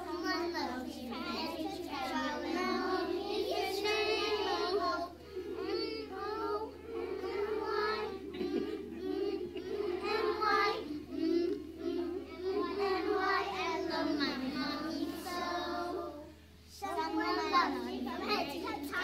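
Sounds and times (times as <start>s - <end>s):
children singing in unison: 0.0s - 19.0s.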